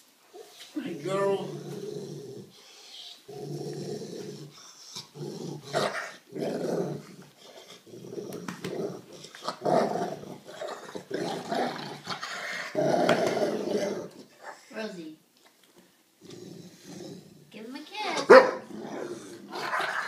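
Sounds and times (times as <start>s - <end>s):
dog growling: 0.3s - 14.7s, 16.2s - 17.6s, 18.2s - 20.0s.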